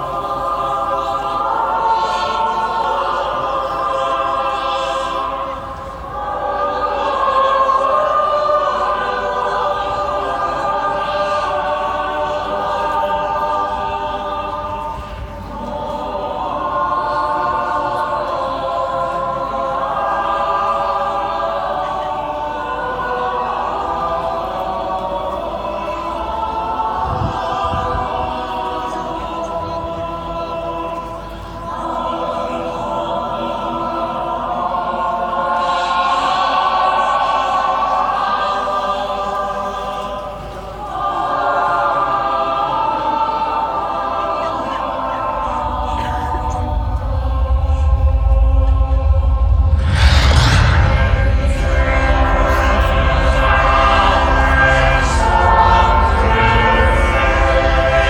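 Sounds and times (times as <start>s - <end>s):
choir singing held phrases: 0.0s - 58.0s.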